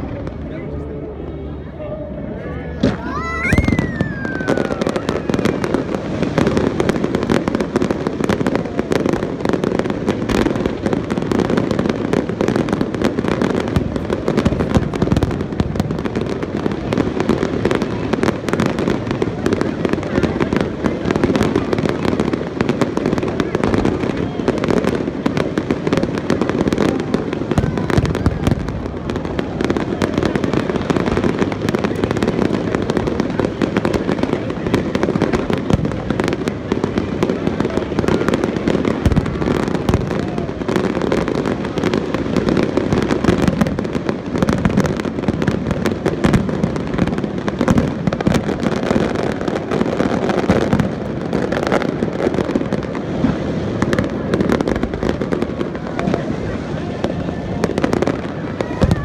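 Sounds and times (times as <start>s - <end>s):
firework bursts and crackling: 2.5s - 59.0s.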